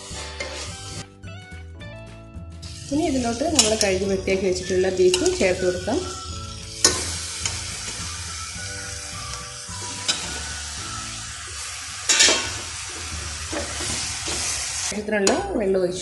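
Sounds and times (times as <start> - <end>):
frying hiss: 0.0 - 1.0, 2.6 - 15.0.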